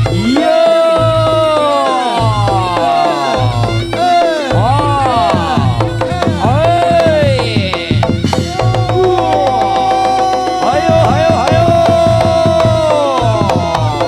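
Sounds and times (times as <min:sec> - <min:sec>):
wailing melodic lead: 0:00.0 - 0:14.0
hand drum strokes: 0:02.3 - 0:14.0.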